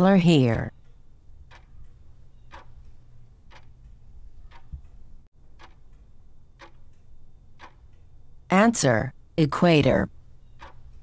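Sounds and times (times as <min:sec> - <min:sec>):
clock ticking: 0:00.0 - 0:09.0, 0:09.8 - 0:11.0.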